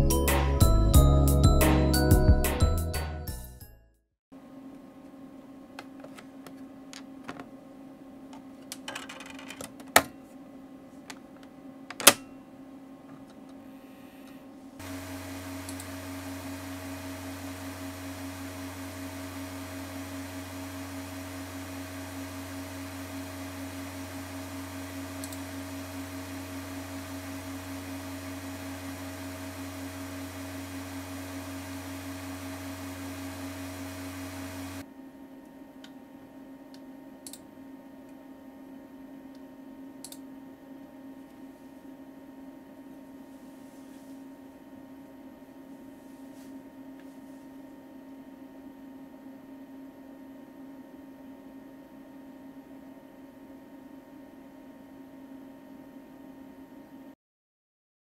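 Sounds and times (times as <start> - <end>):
computer hum: 4.4 - 57.2.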